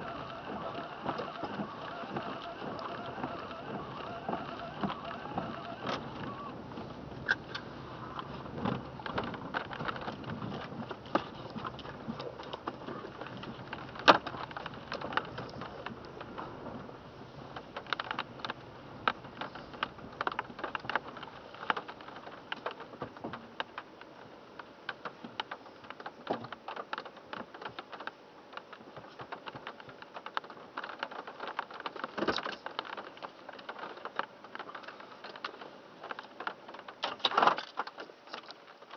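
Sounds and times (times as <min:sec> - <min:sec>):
rain tapping on car roof: 0:00.0 - 0:37.1.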